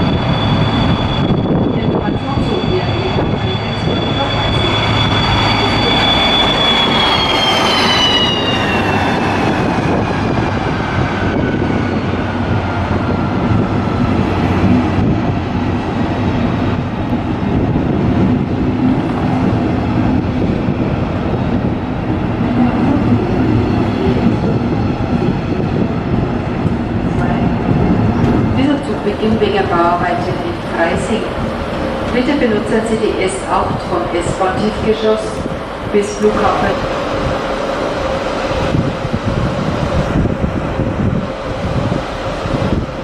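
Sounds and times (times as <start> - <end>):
electric train whining: 0.0 - 43.0
rumble of train wheels: 0.0 - 43.0.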